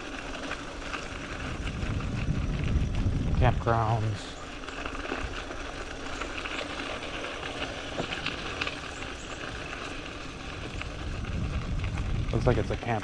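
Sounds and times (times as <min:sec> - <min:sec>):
bike rolling on trail: 0:00.0 - 0:13.0.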